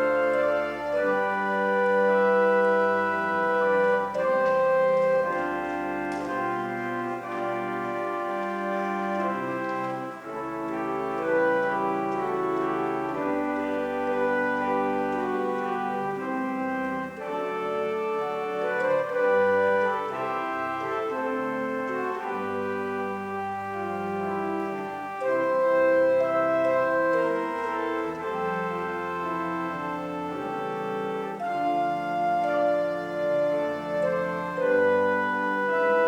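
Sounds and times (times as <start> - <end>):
pipe organ chords: 0.0 - 36.0.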